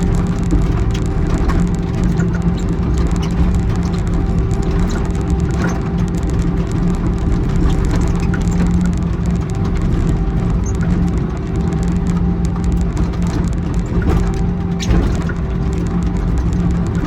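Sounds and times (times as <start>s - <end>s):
excavator diesel engine running: 0.0s - 17.0s
light ticks and rattles: 0.0s - 17.0s.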